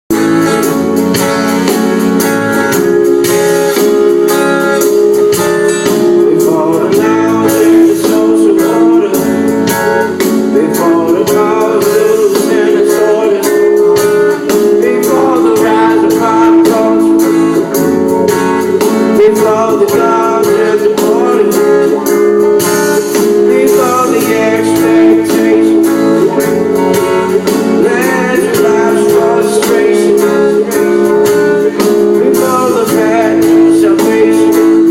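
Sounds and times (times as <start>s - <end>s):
strummed guitar: 0.1s - 34.9s
man singing: 5.1s - 34.9s.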